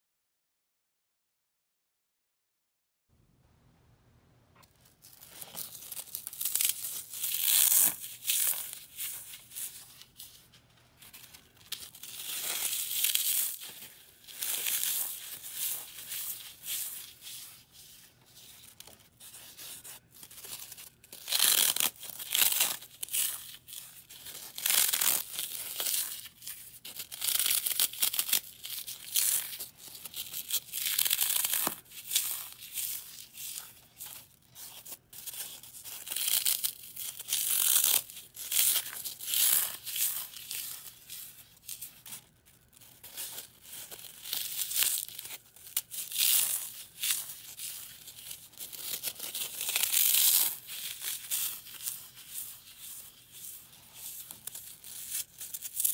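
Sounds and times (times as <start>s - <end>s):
floral foam crunching in fingers: 4.7s - 55.9s.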